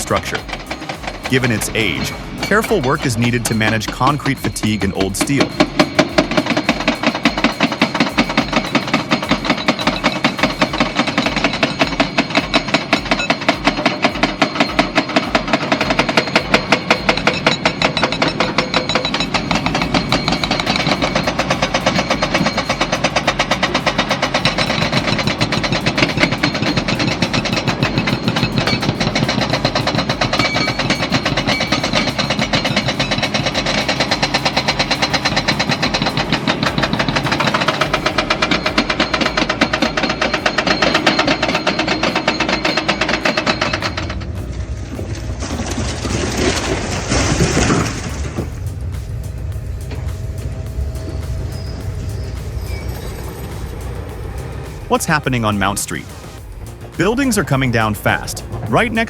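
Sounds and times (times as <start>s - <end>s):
excavator engine running: 0.0s - 59.0s
hydraulic breaker hammering concrete: 0.0s - 59.0s.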